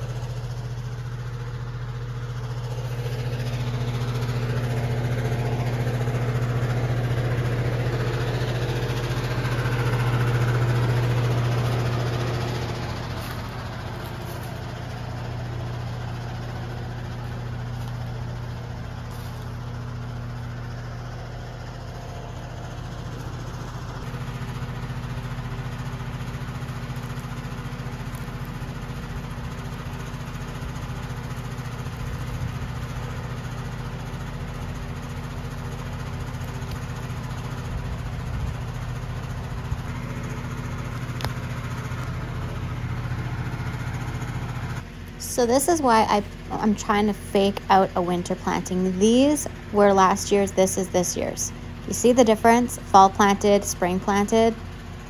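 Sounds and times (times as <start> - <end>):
motor humming: 0.0 - 55.0.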